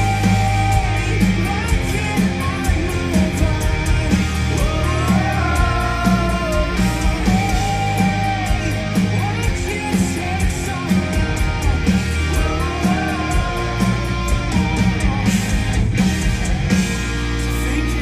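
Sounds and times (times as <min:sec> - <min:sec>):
drum beat: 0:00.0 - 0:17.5
bass guitar: 0:00.0 - 0:18.0
distorted electric guitar: 0:00.0 - 0:18.0.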